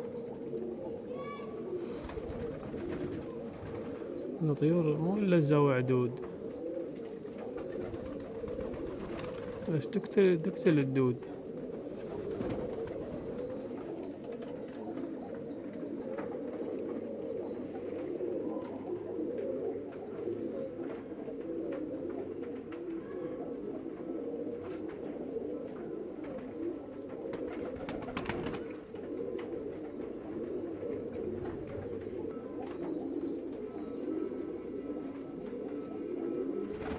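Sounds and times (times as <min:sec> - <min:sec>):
pigeons cooing: 0:00.0 - 0:36.9.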